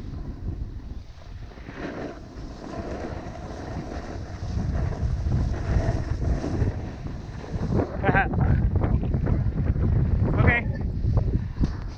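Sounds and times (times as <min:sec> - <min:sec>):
skis sliding over snow: 0:00.0 - 0:11.9
wind buffeting microphone: 0:00.0 - 0:11.9.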